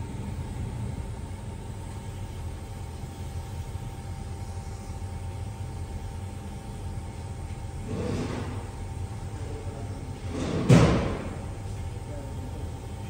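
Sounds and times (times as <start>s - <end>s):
constant machine tones: 0.0s - 13.0s
machinery rumbling and humming: 0.0s - 13.0s.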